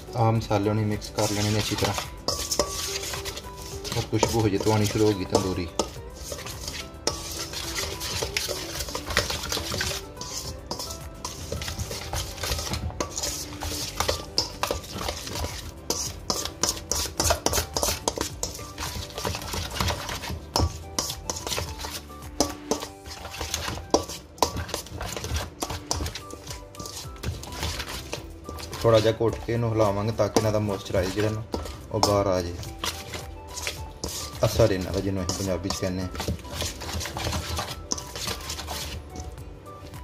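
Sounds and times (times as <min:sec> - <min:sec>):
spoon scraping metal bowl: 0:00.0 - 0:40.0.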